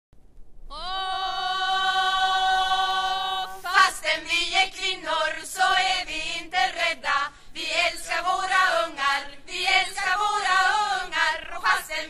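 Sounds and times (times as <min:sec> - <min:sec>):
choir singing: 0:00.7 - 0:12.0.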